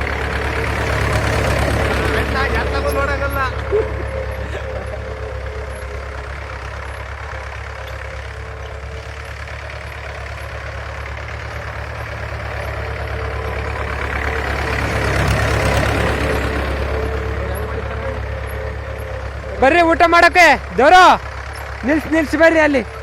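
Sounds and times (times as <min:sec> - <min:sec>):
tractor engine rumbling: 0:00.0 - 0:23.0.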